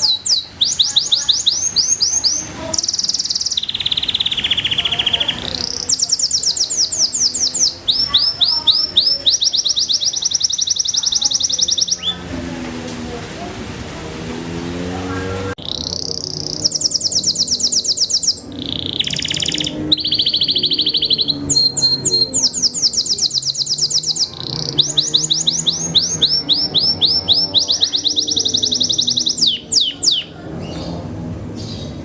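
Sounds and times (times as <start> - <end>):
canary singing trills: 0.0 - 12.6, 15.0 - 32.0.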